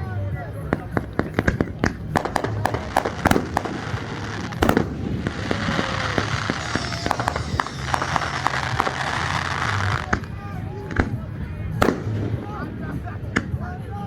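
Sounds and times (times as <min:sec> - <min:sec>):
fireworks crackling: 0:00.5 - 0:13.6
fireworks bangs: 0:00.7 - 0:11.2, 0:11.8 - 0:13.6.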